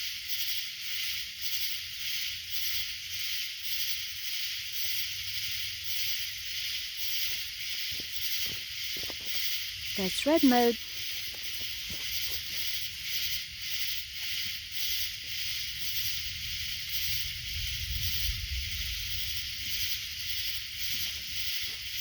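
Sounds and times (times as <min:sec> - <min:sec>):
insects pulsing drone: 0:00.0 - 0:22.0.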